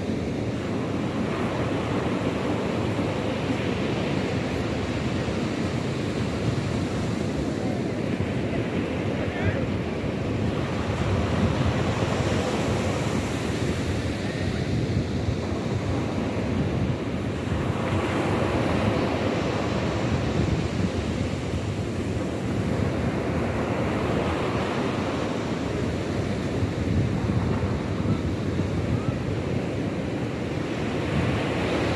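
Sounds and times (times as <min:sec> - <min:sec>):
sea surf washing in: 0:00.0 - 0:31.9
wind rumbling on microphone: 0:00.0 - 0:31.9.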